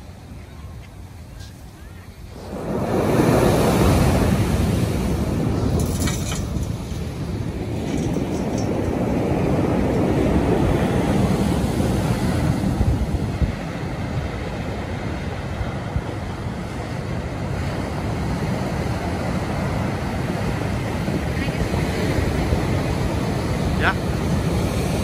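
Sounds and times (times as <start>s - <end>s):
ocean waves breaking on rocks: 0.0s - 25.0s.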